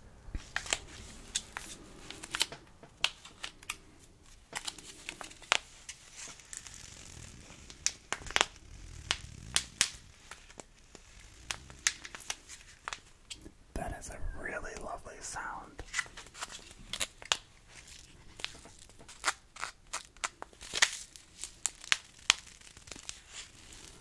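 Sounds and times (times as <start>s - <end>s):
plastic pouch crinkling: 0.4s - 13.4s, 15.8s - 24.0s.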